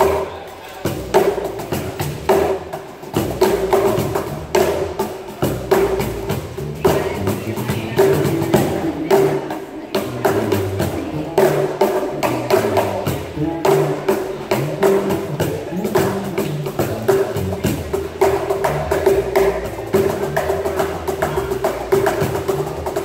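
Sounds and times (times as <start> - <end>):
cajons played by hand: 0.0 - 23.0
electric bass guitar: 0.0 - 23.0.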